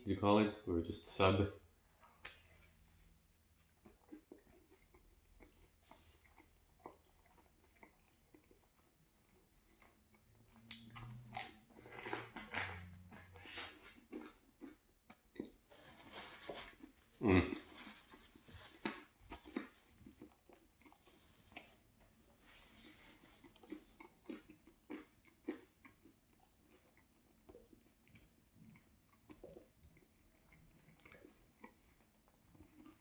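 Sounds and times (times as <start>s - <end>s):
chewing sandwich with crunches: 1.8s - 33.0s.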